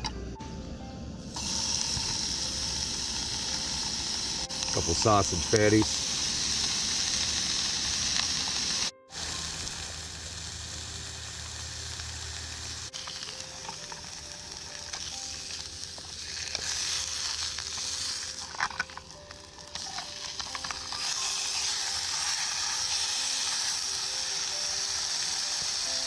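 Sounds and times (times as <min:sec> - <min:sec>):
sausage sizzling in a pan: 0:01.3 - 0:26.0.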